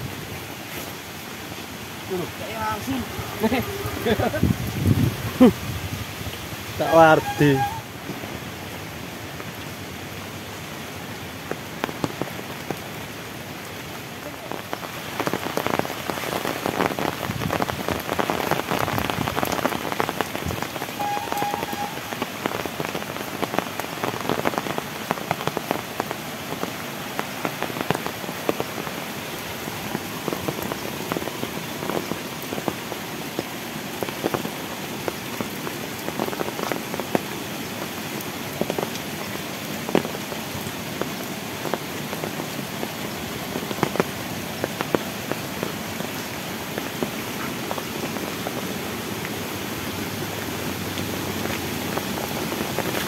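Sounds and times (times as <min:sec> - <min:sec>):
heavy rain pouring: 0:00.0 - 0:53.0
raindrops pattering on surfaces: 0:00.0 - 0:53.0.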